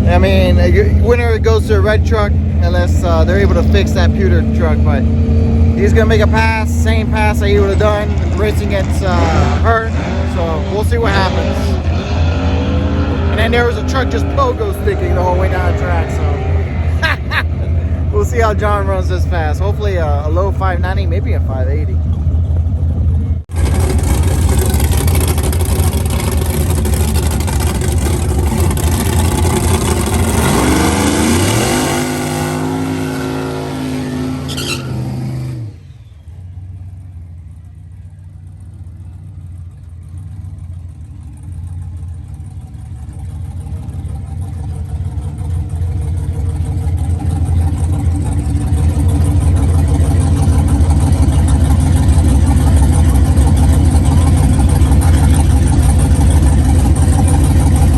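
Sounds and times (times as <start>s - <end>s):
pickup truck engine racing: 0.0s - 57.9s.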